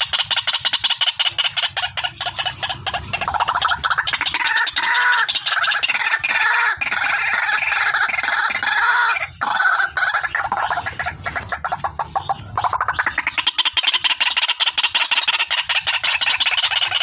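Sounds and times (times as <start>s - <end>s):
waterhen calling harsh pulsing notes: 0.0s - 17.0s.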